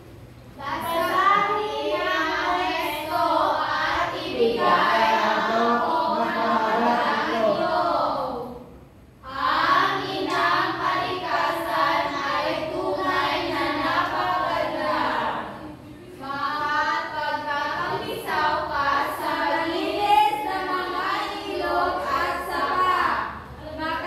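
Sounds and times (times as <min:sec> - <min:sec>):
children singing in unison: 0:00.8 - 0:08.6, 0:09.2 - 0:23.3.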